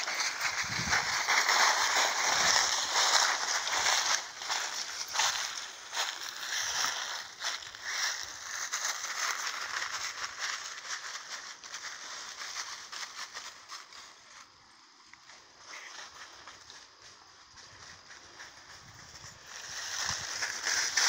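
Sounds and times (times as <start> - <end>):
footsteps in dry leaves: 0.0 - 14.6, 15.4 - 21.0.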